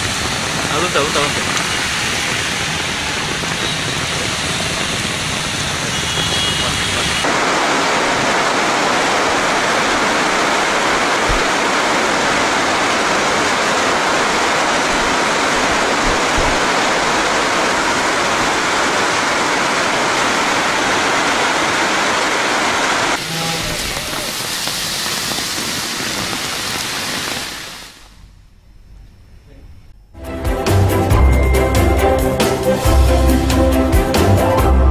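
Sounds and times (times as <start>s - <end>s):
heavy rain pouring: 0.0s - 28.0s, 30.4s - 34.9s.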